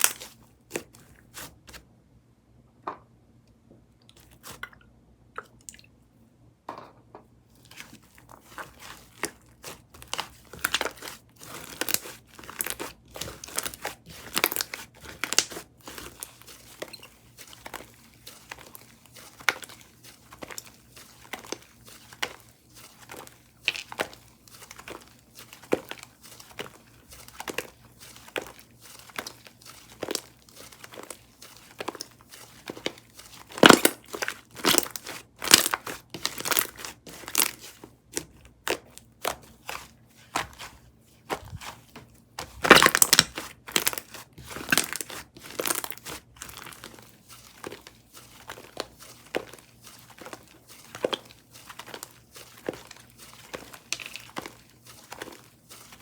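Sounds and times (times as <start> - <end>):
slime squished by hand: 7.6 - 56.0.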